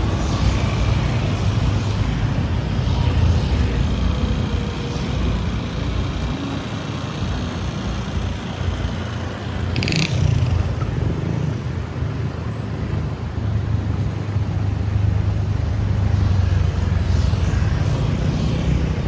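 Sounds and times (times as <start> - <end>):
motorbike engine and road rumble: 0.0 - 19.0.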